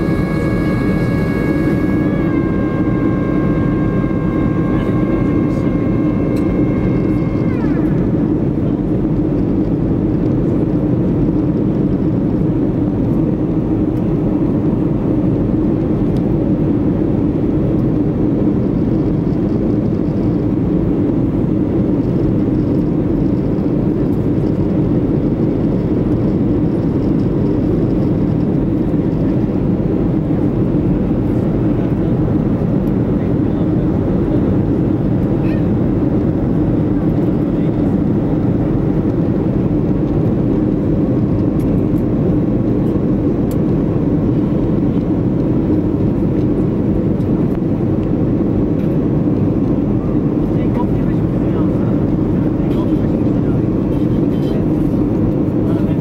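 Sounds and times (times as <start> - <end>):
airplane cabin engine noise: 0.0 - 56.0
high whine: 0.0 - 56.0.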